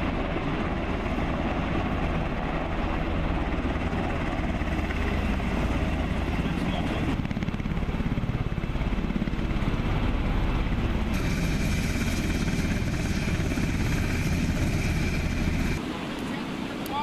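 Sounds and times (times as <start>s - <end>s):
helicopter rotor chop: 0.0s - 15.8s
high turbine whine: 0.0s - 16.1s.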